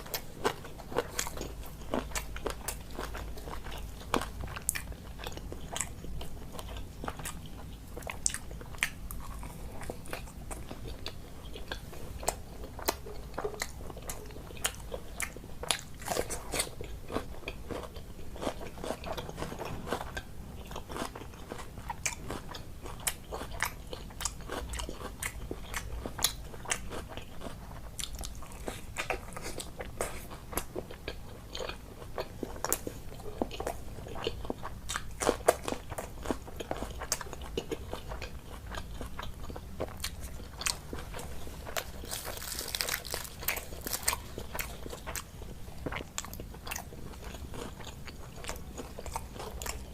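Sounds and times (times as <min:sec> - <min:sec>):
person chewing and biting: 0:00.0 - 0:49.9.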